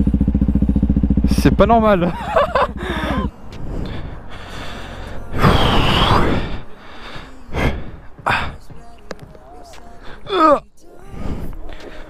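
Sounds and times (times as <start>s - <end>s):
motorcycle engine idling: 0.0s - 10.3s
voices: 1.2s - 12.0s.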